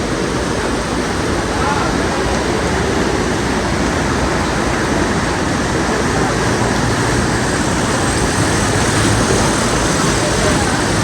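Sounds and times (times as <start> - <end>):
traffic on wet road: 0.0 - 11.0.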